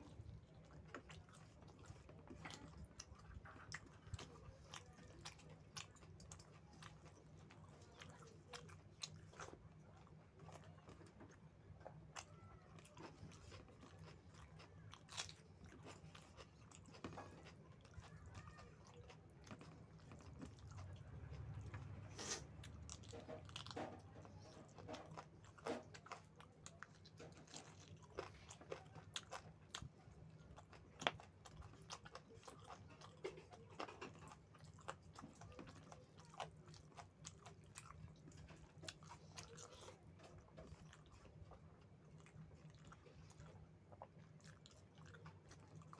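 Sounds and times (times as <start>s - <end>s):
faint low hum: 0.0s - 45.9s
food crunching: 0.0s - 45.9s
wet chewing clicks: 0.0s - 45.9s.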